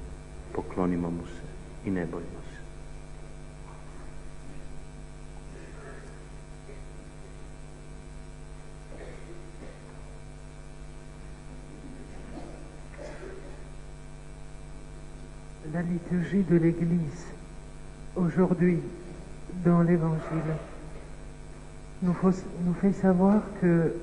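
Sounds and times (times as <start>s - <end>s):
faint scattered noises: 0.0s - 16.3s, 17.2s - 24.0s
electrical mains hum: 0.0s - 24.0s.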